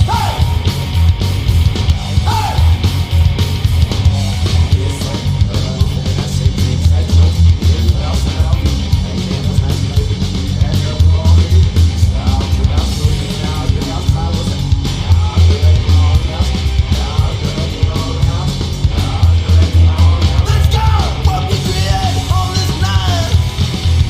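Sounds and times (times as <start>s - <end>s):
fast driving drum beat: 0.0s - 24.0s
hard rock music: 0.0s - 24.0s
heavy bass: 0.0s - 24.0s.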